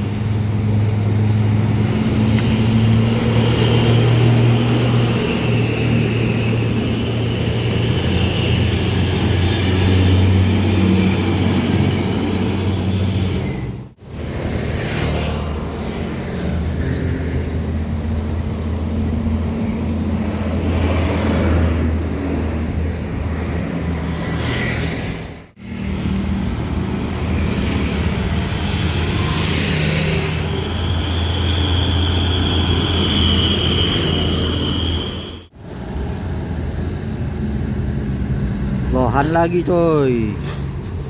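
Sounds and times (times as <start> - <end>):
heavy trucks passing: 0.0 - 41.0.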